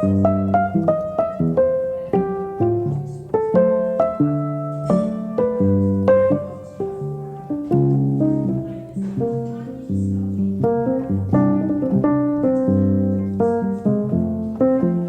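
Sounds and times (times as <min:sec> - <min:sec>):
gentle piano piece: 0:00.0 - 0:15.0.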